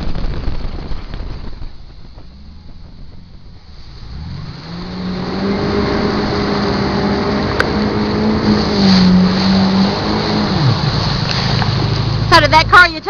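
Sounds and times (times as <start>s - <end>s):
rushing wind and water: 0.0s - 13.0s
jet ski engine revving: 0.1s - 13.0s.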